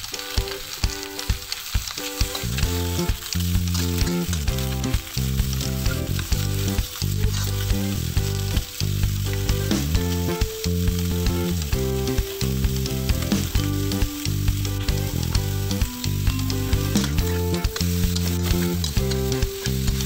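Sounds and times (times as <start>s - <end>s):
meat sizzling in a wok: 0.0s - 20.0s.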